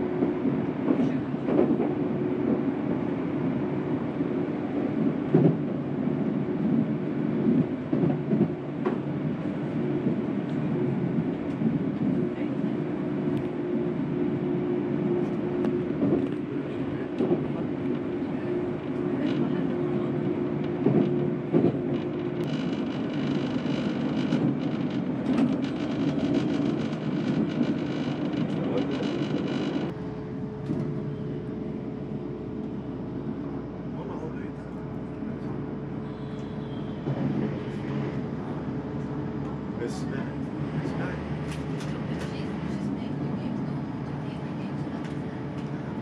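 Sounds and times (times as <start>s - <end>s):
train rumbling on track: 0.0s - 46.0s.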